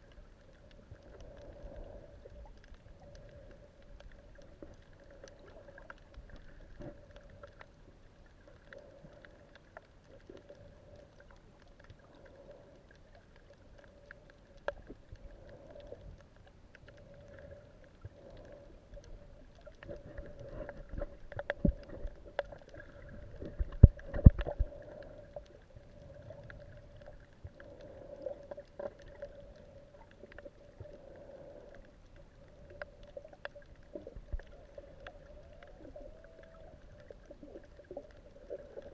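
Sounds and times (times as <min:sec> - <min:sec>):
crackling clicks: 0:00.0 - 0:38.9
underwater low hum: 0:00.0 - 0:38.9.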